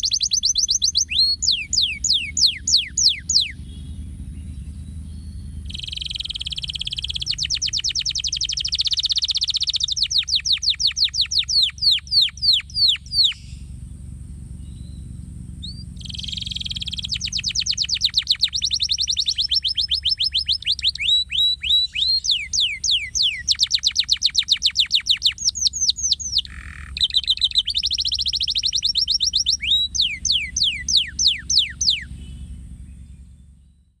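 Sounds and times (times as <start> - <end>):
canary singing: 0.0 - 13.9, 14.5 - 33.8.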